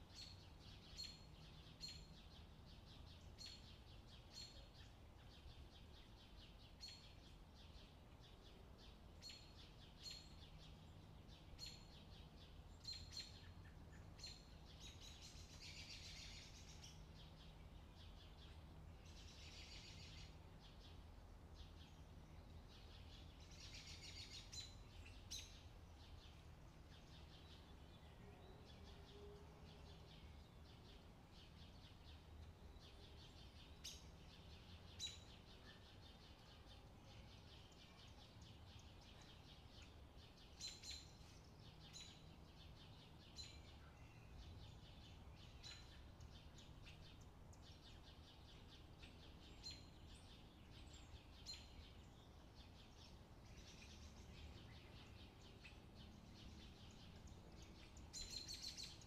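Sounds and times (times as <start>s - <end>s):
faint bird chirps: 0.0s - 59.0s
low steady hum: 0.0s - 59.0s.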